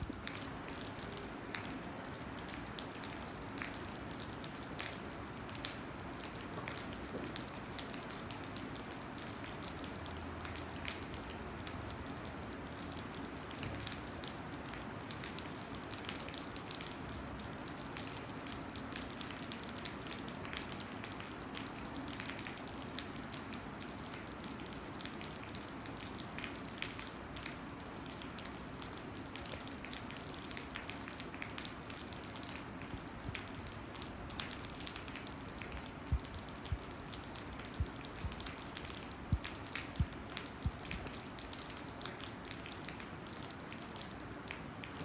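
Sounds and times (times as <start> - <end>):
steady rain patter: 0.0 - 45.0.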